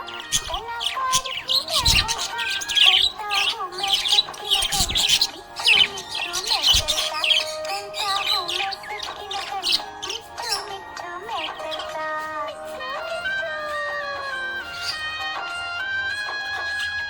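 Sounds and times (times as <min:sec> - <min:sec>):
background music: 0:00.0 - 0:17.0
parrots chirping and twittering: 0:00.0 - 0:17.0.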